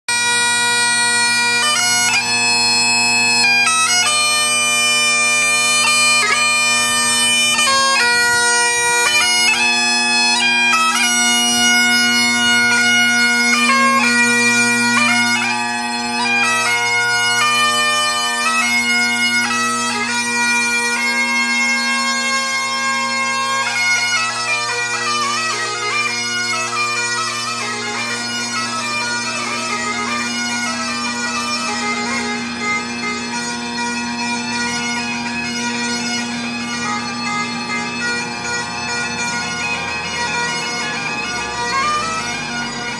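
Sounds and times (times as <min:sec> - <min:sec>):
bagpipe playing a tune: 0:00.1 - 0:42.9.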